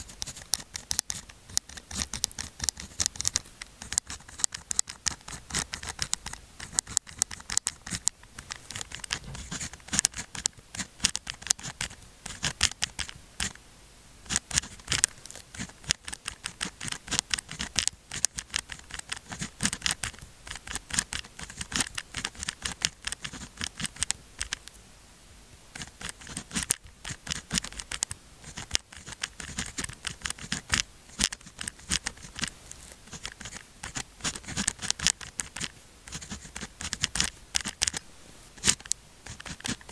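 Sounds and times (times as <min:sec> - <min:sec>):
pen scratching on paper: 0:00.0 - 0:13.6, 0:14.3 - 0:24.6, 0:25.8 - 0:38.0, 0:38.6 - 0:39.9.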